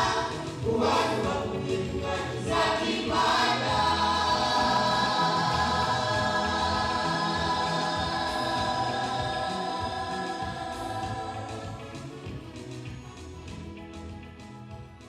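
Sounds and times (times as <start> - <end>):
gospel choir singing: 0.0 - 12.4.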